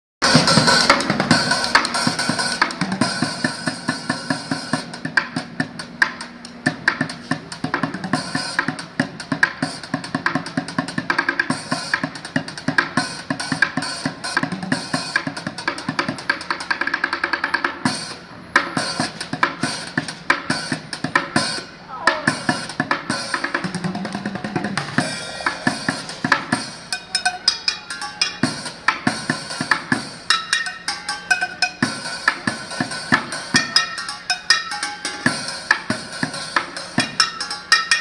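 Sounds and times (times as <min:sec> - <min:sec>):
drumming on buckets and pans: 0:00.2 - 0:38.0.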